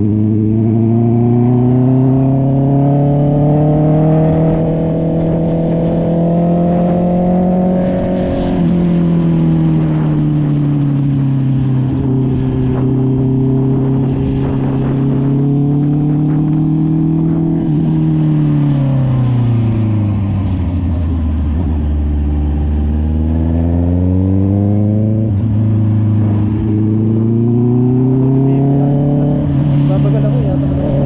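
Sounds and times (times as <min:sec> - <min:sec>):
motorcycle engine under throttle: 0:00.0 - 0:31.0.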